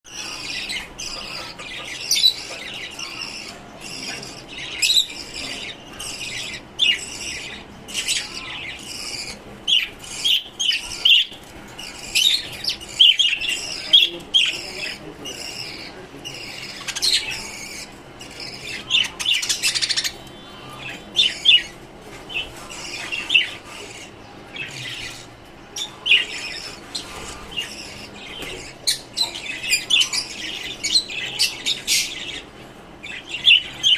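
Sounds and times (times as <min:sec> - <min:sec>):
birds chirping and squawking: 0:00.1 - 0:33.9.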